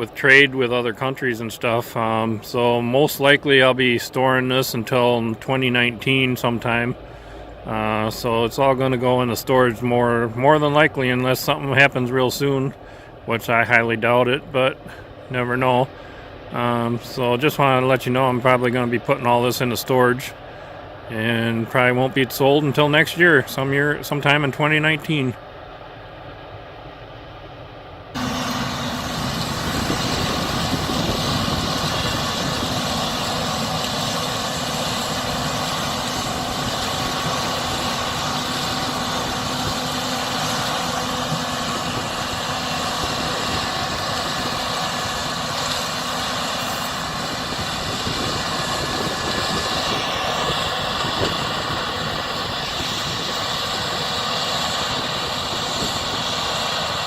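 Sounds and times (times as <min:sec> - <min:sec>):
combine harvester drone: 0:00.0 - 0:57.0
steady whining tones: 0:00.0 - 0:57.0.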